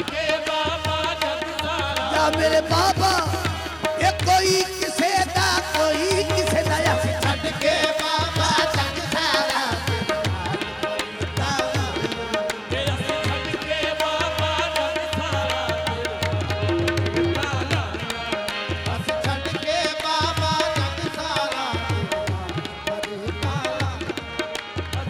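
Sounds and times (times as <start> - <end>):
harmonium notes: 0.0 - 25.0
tabla playing a rhythm: 0.0 - 25.0.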